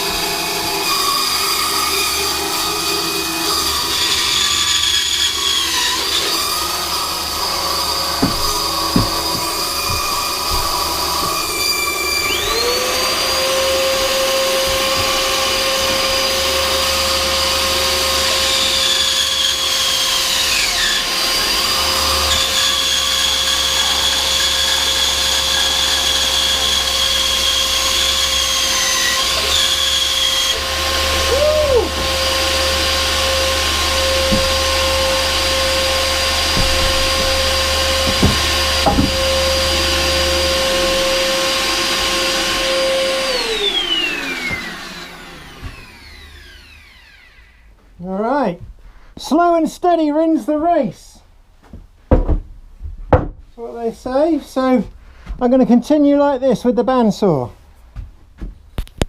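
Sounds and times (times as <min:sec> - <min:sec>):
saw blade cutting wood: 0:00.0 - 0:47.5
band saw motor whining: 0:00.0 - 0:47.8.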